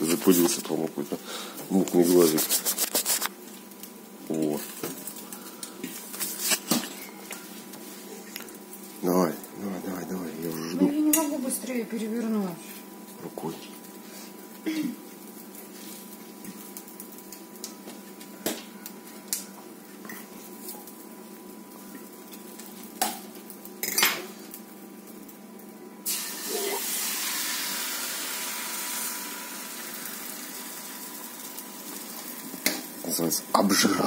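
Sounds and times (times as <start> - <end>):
egg sizzling in hot pan: 1.7 - 34.0.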